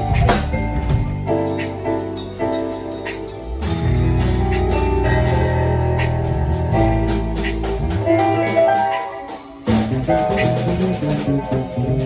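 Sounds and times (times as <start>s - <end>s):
instrumental music with drums: 0.0s - 12.0s.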